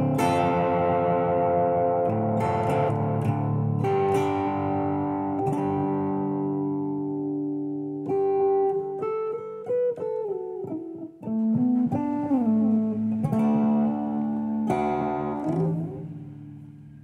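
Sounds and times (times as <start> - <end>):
electric guitar lead phrase: 0.0 - 17.0.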